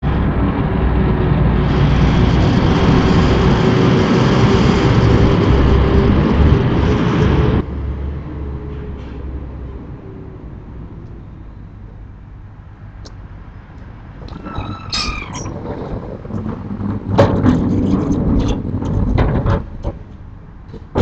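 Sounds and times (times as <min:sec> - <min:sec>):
sliding shutters rumbling along track: 0:00.0 - 0:21.0.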